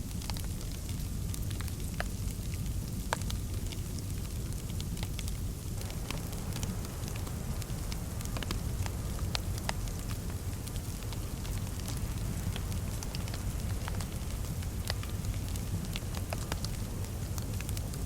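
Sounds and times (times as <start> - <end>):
low rumble of fire: 0.0 - 18.0.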